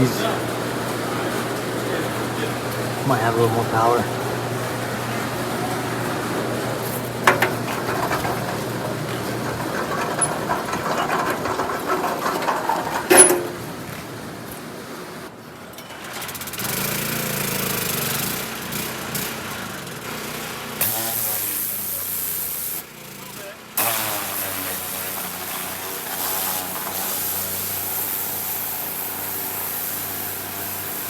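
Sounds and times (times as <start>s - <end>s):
pressure washer motor humming: 0.0s - 15.3s, 16.0s - 31.0s
pressure washer water jet hissing: 0.0s - 15.3s, 16.6s - 31.0s.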